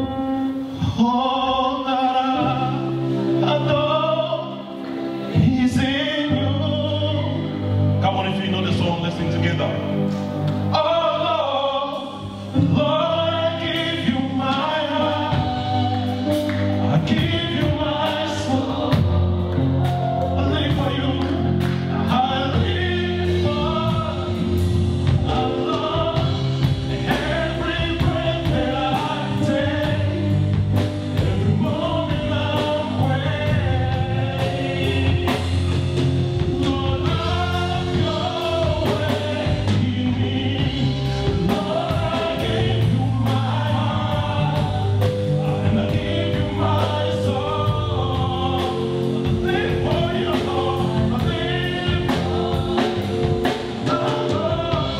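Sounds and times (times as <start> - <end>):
instrumental backing: 0.0 - 54.9
voices singing gospel song: 0.0 - 54.9.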